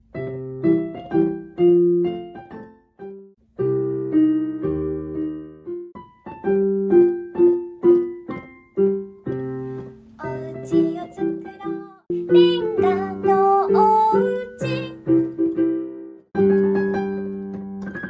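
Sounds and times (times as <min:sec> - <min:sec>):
piano playing bouncy chords: 0:00.0 - 0:18.0.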